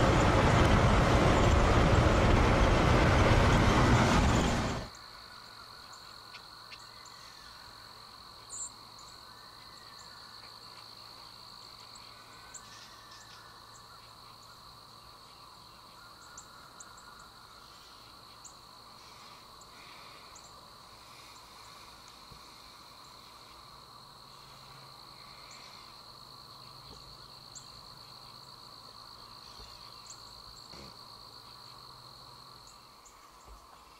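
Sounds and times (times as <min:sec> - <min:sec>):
crickets trilling: 0:04.9 - 0:33.9.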